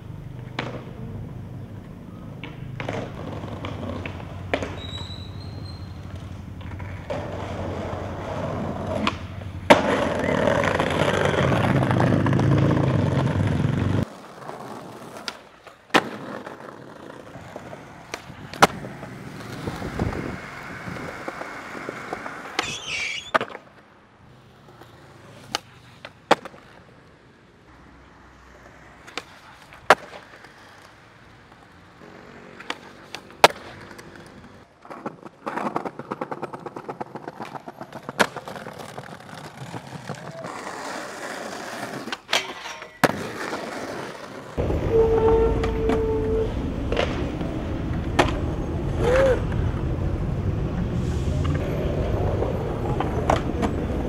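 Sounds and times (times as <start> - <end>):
skateboard wheels rolling on pavement: 0.0 - 54.0
skateboard clacking on ground: 0.1 - 27.2, 28.4 - 50.0, 51.4 - 54.0.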